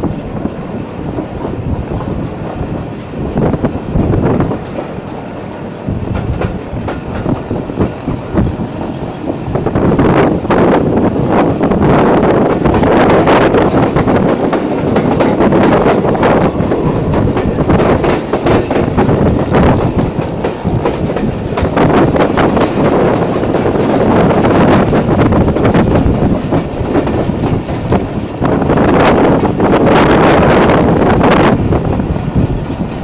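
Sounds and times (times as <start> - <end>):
wind buffeting microphone: 0.0 - 33.0
train wheels clattering over joints: 0.1 - 33.0.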